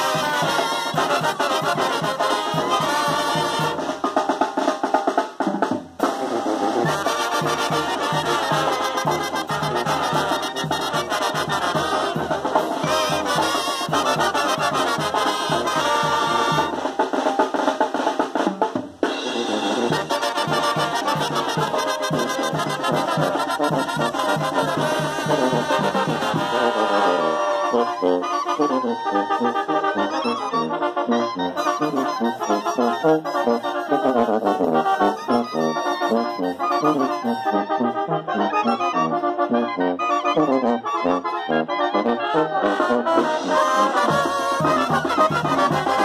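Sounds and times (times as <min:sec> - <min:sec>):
drums: 0:00.0 - 0:30.0, 0:30.7 - 0:38.0, 0:42.6 - 0:46.0
brass band playing: 0:00.0 - 0:46.0.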